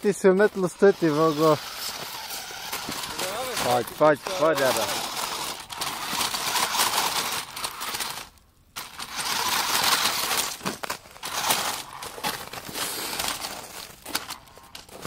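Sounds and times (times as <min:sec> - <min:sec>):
toy car motor and gears running: 0:00.0 - 0:15.0
tyres crackling on snow: 0:00.0 - 0:15.0.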